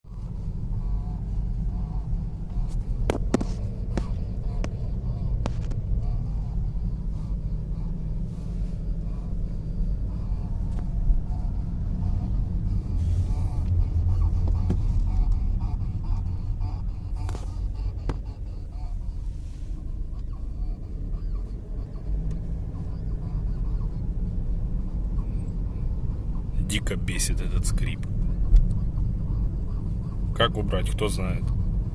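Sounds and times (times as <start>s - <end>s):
car low rumble: 0.0s - 31.9s
steering creaking: 0.1s - 31.9s.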